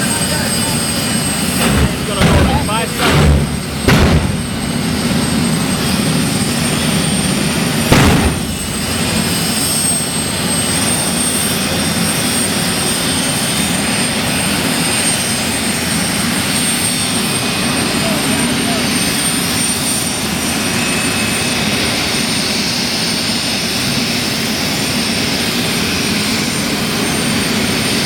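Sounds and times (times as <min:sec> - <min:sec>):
jet engine roaring: 0:00.0 - 0:22.9
loud jet engine bursts: 0:00.0 - 0:28.0.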